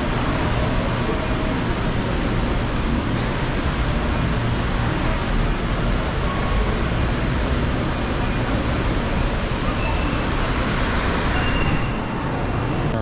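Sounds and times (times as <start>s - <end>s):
heavy rain rushing: 0.0s - 12.7s
city street traffic: 0.0s - 13.0s.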